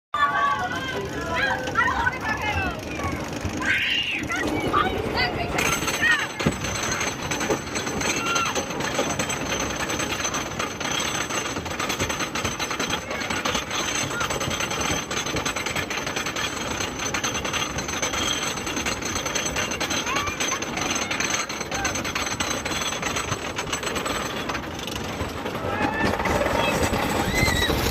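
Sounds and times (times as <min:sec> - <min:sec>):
roller coaster clattering: 0:00.2 - 0:27.9.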